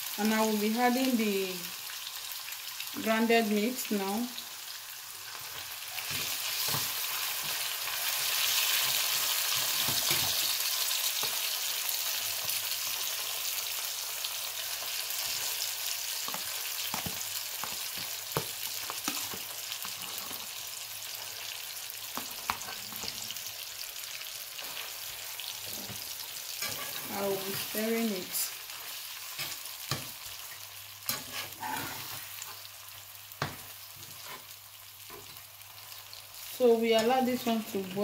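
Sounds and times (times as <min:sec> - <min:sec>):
meat sizzling in a frying pan: 0:00.0 - 0:38.0.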